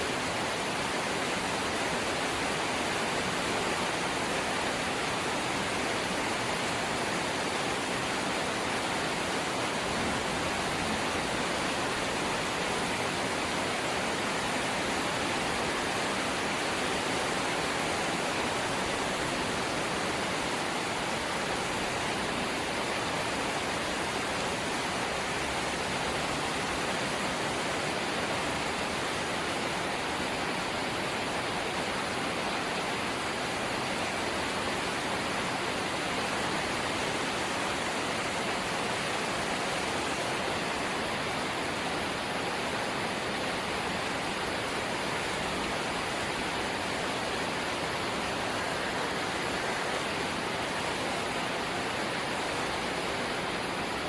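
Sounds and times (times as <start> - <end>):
light rain: 0.0 - 54.0.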